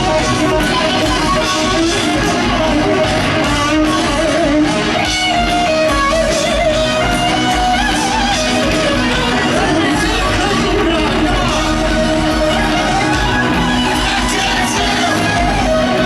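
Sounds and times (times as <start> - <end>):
distorted lead electric guitar: 0.0 - 16.0
heavy metal band playing: 0.0 - 16.0.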